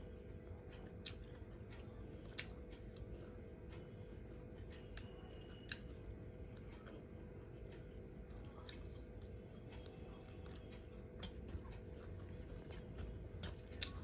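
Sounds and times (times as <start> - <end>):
person chewing food: 0.7 - 14.0.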